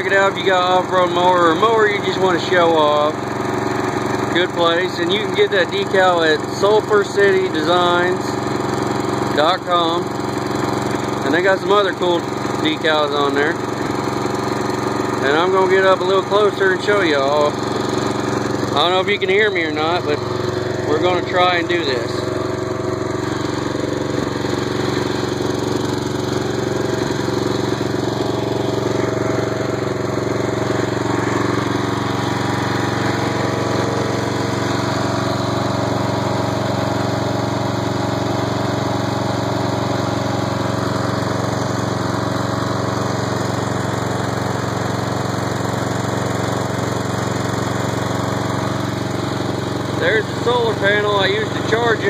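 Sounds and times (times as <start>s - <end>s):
riding mower engine running: 0.0s - 52.0s.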